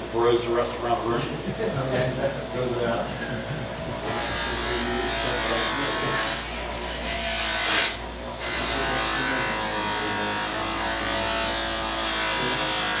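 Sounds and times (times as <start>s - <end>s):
bench buffer motor running: 0.0s - 13.0s.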